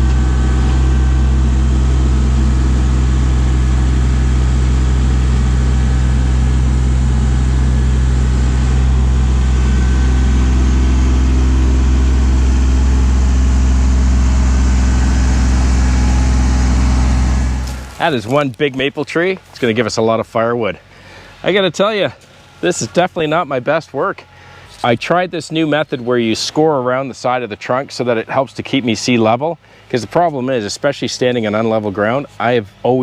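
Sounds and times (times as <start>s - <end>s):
tractor diesel engine droning: 0.0s - 33.0s.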